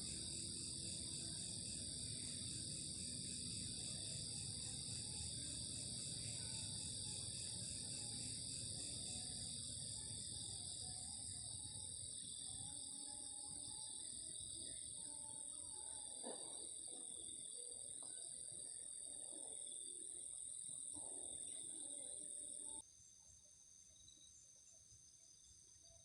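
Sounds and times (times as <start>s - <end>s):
insects trilling: 0.0s - 24.4s
rapidly pulsing insect trill: 0.0s - 26.0s.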